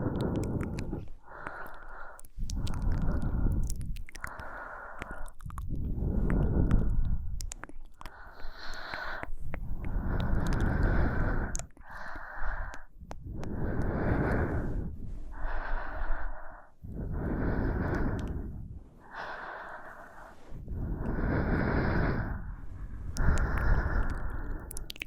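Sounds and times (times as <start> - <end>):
woman breathing close to microphone: 0.0 - 25.0.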